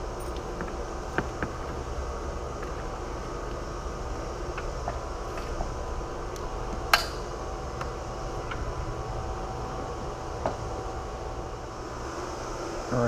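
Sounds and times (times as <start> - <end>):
fan-like hum: 0.0 - 13.0.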